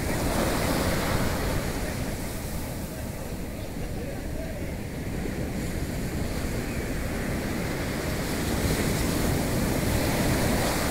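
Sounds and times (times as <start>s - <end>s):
sea surf washing onto beach: 0.0s - 10.9s
wind rumbling on microphone: 0.0s - 10.9s.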